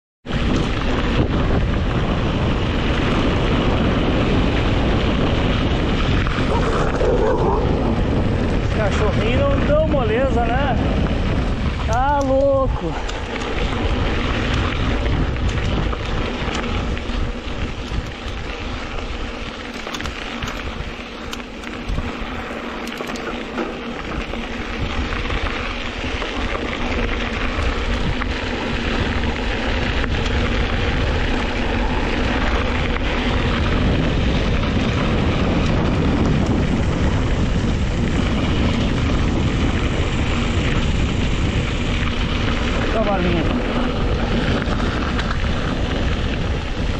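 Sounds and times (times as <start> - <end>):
bike tyres rolling on dirt: 0.2 - 46.9
wind buffeting microphone: 0.2 - 46.9.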